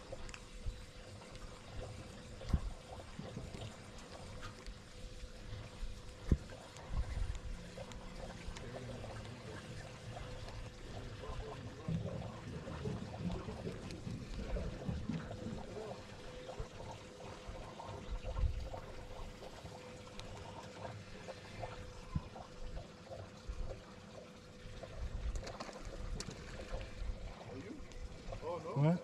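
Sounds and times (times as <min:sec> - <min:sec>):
faint steady hum: 0:00.0 - 0:29.0
low uneven rumble: 0:00.0 - 0:29.0
water lapping against boat: 0:00.0 - 0:29.0.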